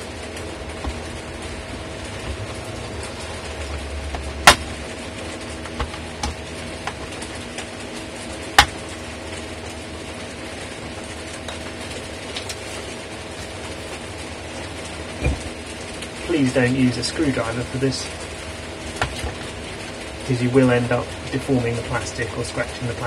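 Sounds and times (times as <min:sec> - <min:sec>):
fan running: 0:00.0 - 0:23.0.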